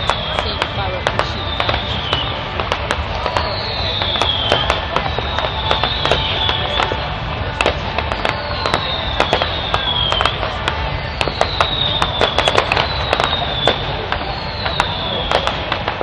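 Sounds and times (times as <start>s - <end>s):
firework bangs and crackles: 0.0s - 16.0s
firework whistles falling in pitch: 0.0s - 16.0s.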